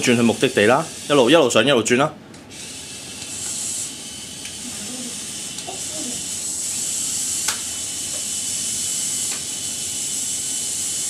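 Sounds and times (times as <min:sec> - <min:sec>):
small electric motor whirring: 0:00.0 - 0:01.4, 0:02.5 - 0:11.0.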